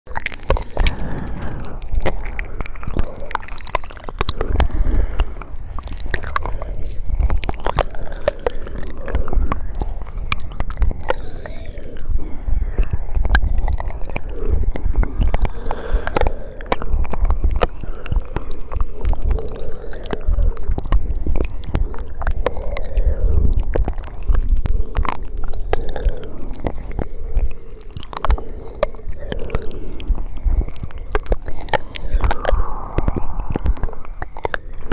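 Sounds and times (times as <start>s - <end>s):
steady low rumble: 0.1s - 34.9s
wet mouth clicks and smacks: 0.1s - 34.9s.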